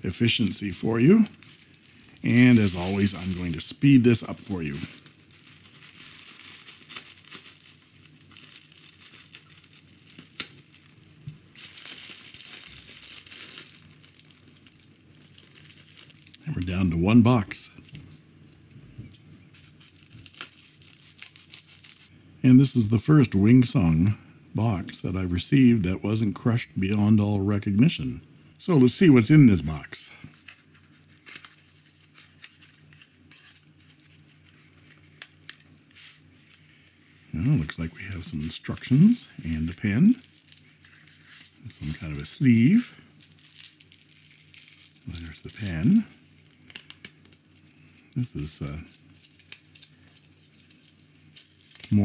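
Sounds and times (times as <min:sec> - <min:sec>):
plastic and bubble wrap crinkling: 0:00.0 - 0:18.2, 0:19.1 - 0:24.0, 0:28.7 - 0:52.0.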